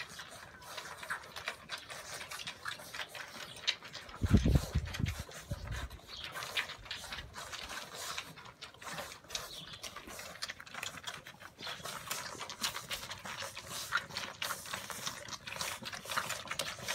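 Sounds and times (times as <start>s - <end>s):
puppies suckling: 0.0s - 16.9s.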